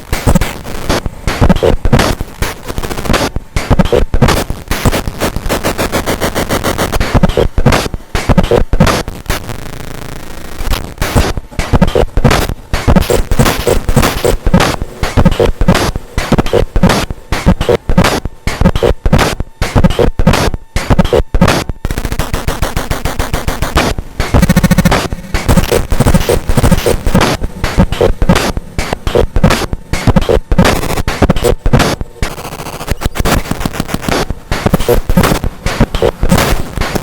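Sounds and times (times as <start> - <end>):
harsh electronic noise percussion: 0.0 - 37.0
steady hissing noise: 0.0 - 37.0.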